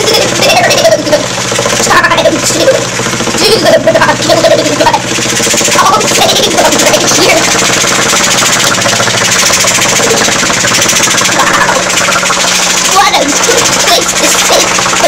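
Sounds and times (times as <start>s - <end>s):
rapid pulsing hum: 0.0s - 15.0s.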